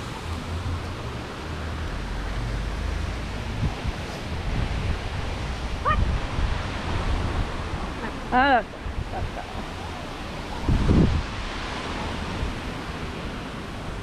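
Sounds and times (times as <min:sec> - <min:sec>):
wind buffeting the microphone: 0:02.1 - 0:14.0.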